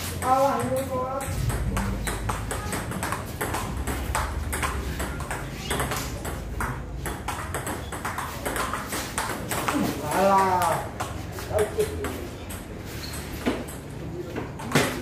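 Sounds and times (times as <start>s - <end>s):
ping pong ball bouncing on table: 0.0s - 15.0s
ping pong ball hitting paddles: 0.0s - 15.0s.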